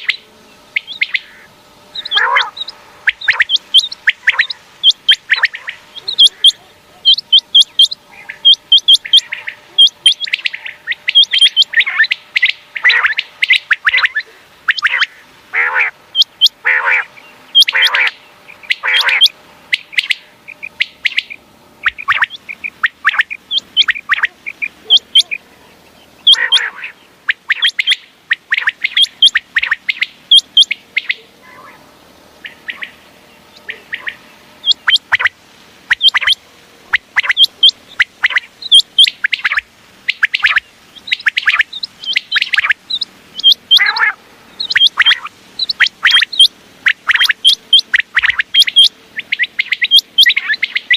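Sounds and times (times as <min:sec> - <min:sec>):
quail calling: 0:00.0 - 0:50.9.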